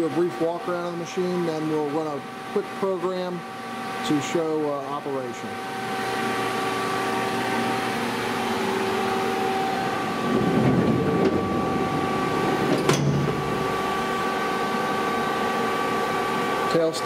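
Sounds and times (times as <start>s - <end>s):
lathe humming: 0.8s - 17.0s.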